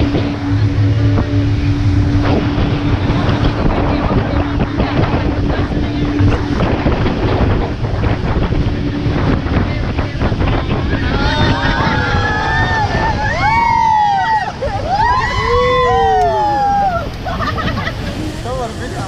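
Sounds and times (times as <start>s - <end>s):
outboard engine humming: 0.0s - 19.0s
water rushing past hull: 0.0s - 19.0s
wind buffeting microphone: 0.0s - 19.0s.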